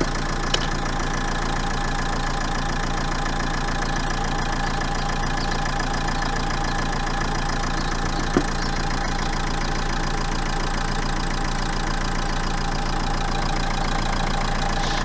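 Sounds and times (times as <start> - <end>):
diesel engine idling irregularly: 0.0 - 15.0.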